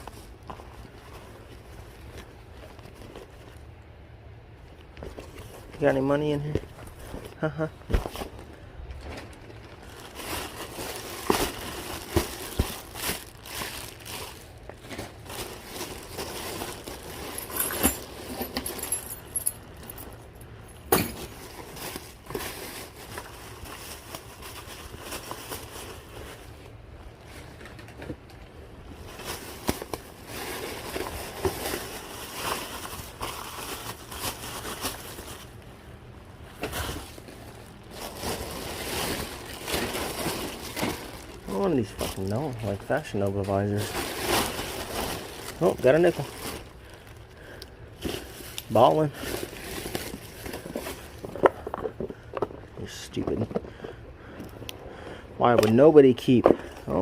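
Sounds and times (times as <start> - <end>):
rustling and crinkling items: 0.0 - 57.0.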